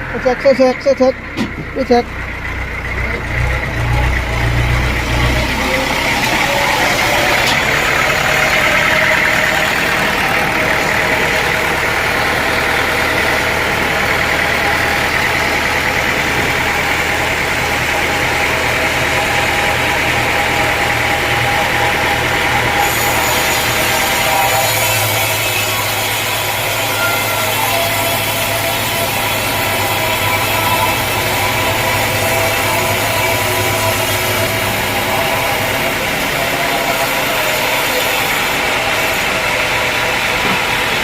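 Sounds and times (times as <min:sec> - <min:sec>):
heavy low drone: 0:00.0 - 0:41.0
motor hum: 0:00.0 - 0:41.0
sawmill machinery running: 0:00.0 - 0:41.0.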